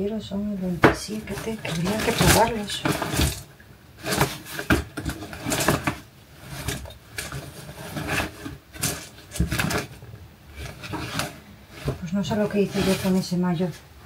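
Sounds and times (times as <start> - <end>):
plastic bag rustling: 0.7 - 13.9.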